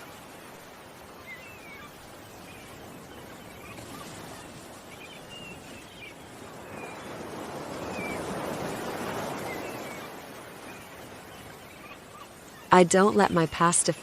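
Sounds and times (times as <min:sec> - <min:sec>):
ocean waves: 0:00.0 - 0:14.0.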